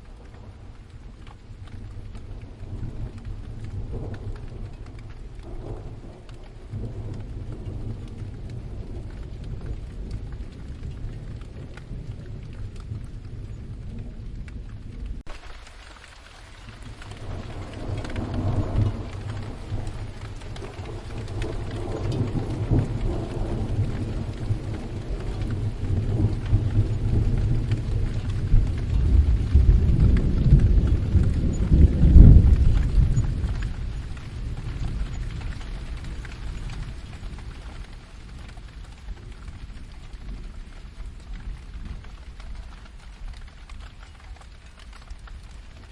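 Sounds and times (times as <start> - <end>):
rolling thunder: 0.0 - 15.4, 16.5 - 45.9
steady rain: 0.0 - 45.9.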